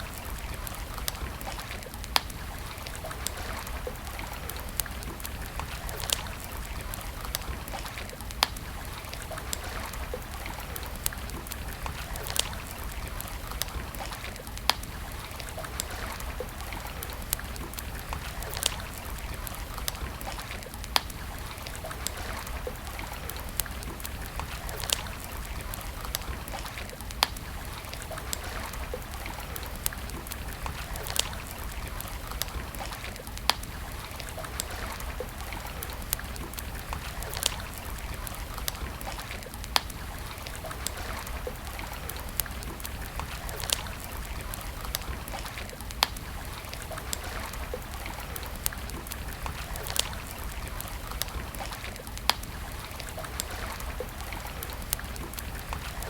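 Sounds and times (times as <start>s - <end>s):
campfire crackling and popping: 0.0s - 56.0s
stream water flowing: 0.0s - 56.0s.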